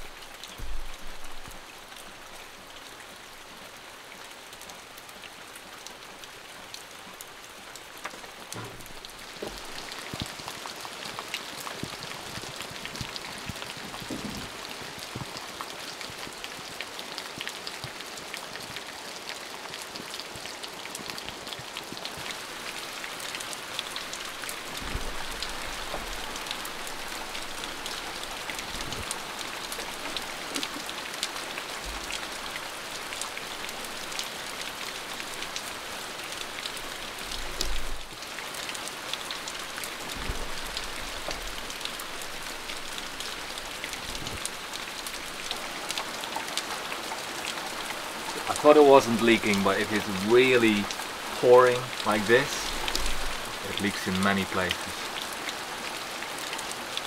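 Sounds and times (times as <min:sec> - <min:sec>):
steady rain with drop ticks: 0:00.0 - 0:57.0.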